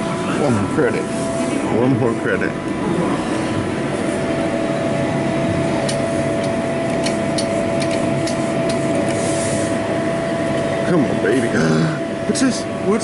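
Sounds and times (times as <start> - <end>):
arcade machines humming: 0.0 - 13.0
constant electronic tone: 0.0 - 13.0.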